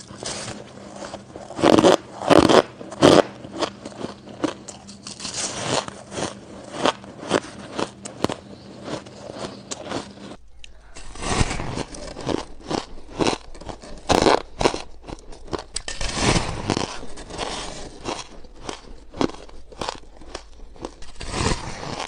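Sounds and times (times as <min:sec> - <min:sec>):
ice being chewed: 0:00.0 - 0:22.0.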